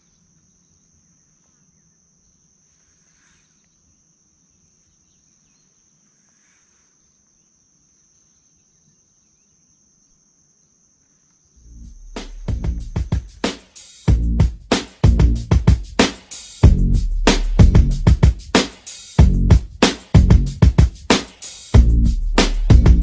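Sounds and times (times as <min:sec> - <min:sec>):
insects chirring: 0:00.0 - 0:16.6, 0:17.9 - 0:23.0.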